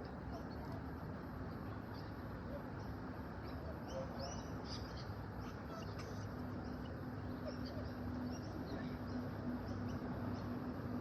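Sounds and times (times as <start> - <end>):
low background hum and rumble: 0.0 - 11.0
small birds chirping: 0.0 - 11.0.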